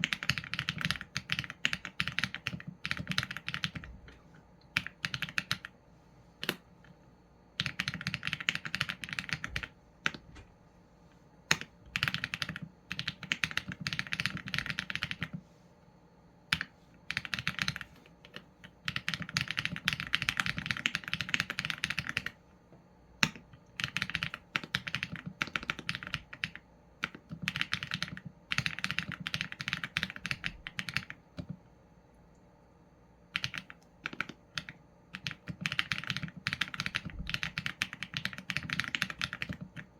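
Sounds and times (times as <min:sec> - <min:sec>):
mechanical keyboard typing: 0:00.0 - 0:05.8, 0:06.4 - 0:06.6, 0:07.6 - 0:10.4, 0:11.5 - 0:15.4, 0:16.5 - 0:22.4, 0:23.2 - 0:31.6, 0:33.3 - 0:39.9.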